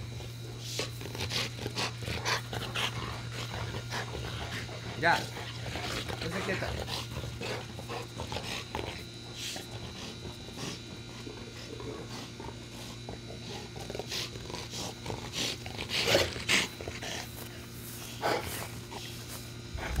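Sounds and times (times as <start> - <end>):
dogs playing: 0.0 - 20.0.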